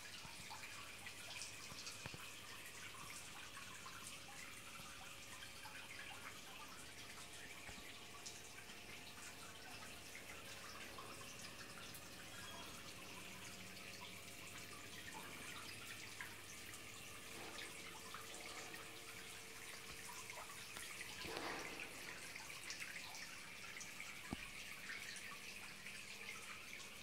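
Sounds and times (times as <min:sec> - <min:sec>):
fountain water trickling and dripping: 0:00.0 - 0:27.0.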